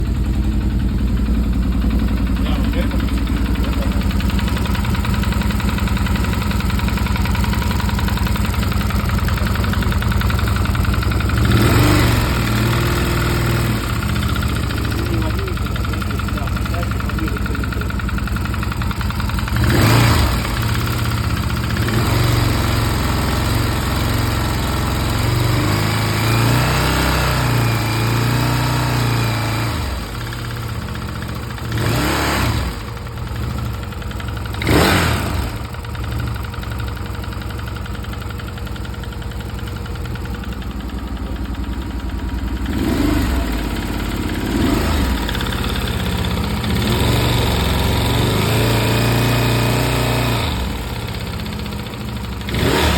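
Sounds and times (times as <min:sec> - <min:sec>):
motorcycle engine idling with knock: 0:00.0 - 0:25.8, 0:29.5 - 0:48.7.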